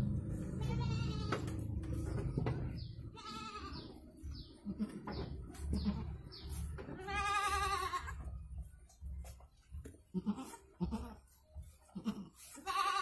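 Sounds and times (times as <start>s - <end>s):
goat bleating: 0.0s - 2.1s, 2.8s - 8.5s, 10.0s - 13.0s.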